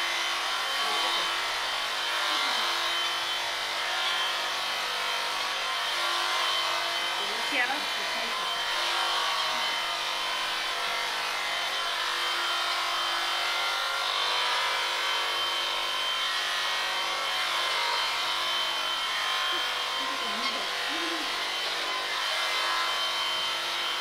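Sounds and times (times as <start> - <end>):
electric shears buzzing: 0.0 - 24.0.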